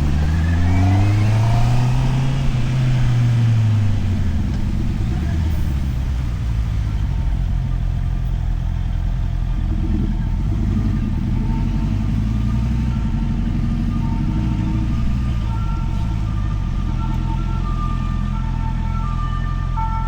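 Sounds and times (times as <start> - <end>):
motorcycle engine running: 0.0 - 18.4
tyres on wet road: 0.0 - 20.0.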